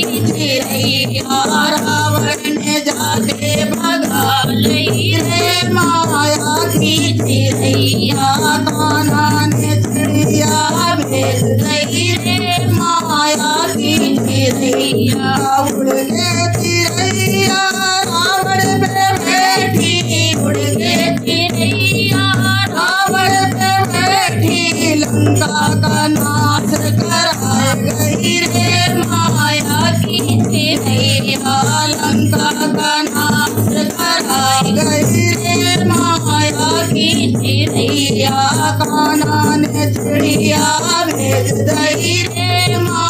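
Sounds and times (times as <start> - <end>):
hand drum beat: 0.0 - 43.0
women singing devotional song: 0.0 - 43.0.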